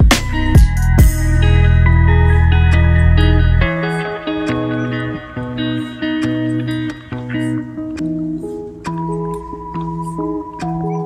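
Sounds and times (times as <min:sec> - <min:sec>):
plucked guitar-like instrumental music: 0:00.0 - 0:11.0.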